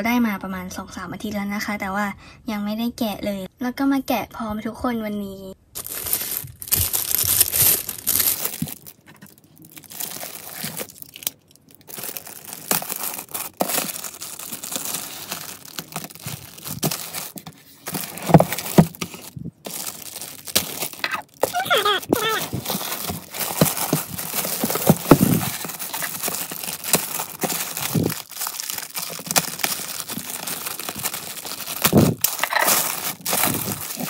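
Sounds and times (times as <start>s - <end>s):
plastic shrink wrap crinkling: 5.7s - 34.0s.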